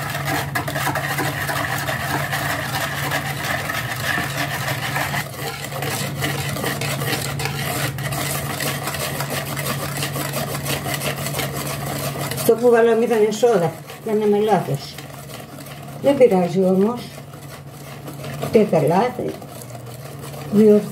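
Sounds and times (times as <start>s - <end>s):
liquid sloshing: 0.0s - 20.9s
whisk beating batter in bowl: 0.0s - 20.9s.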